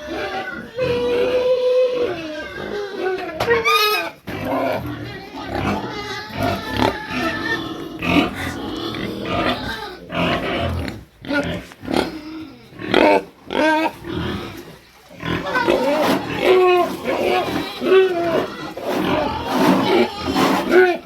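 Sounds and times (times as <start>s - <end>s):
pig squeals: 0.0s - 21.0s
pigs grunting: 0.0s - 21.0s.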